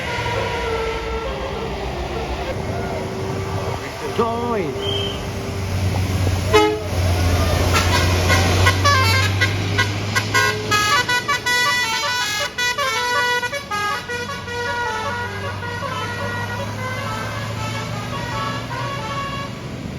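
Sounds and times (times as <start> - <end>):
bus multi-tone horn melody: 0.0 - 5.7, 6.4 - 19.9
bus engine drone: 0.0 - 19.9.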